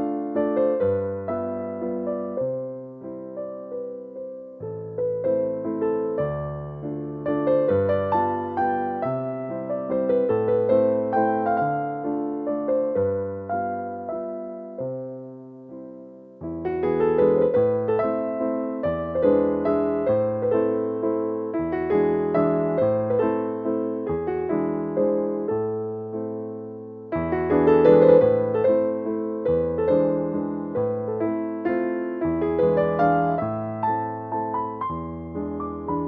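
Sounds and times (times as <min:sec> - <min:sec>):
piano waltz: 0:00.0 - 0:36.0.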